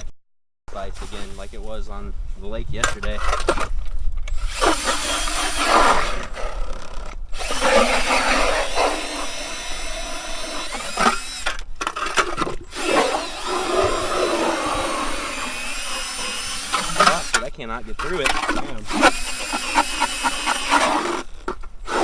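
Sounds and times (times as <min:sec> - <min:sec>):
ice auger grinding: 0:04.3 - 0:22.0.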